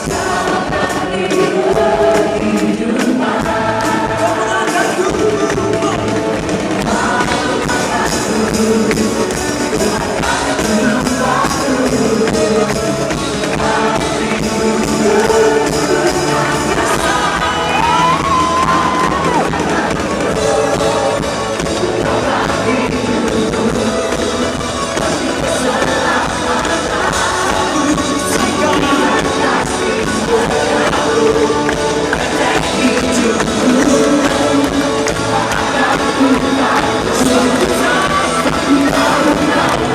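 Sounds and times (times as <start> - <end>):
band playing worship music: 0.0 - 39.9.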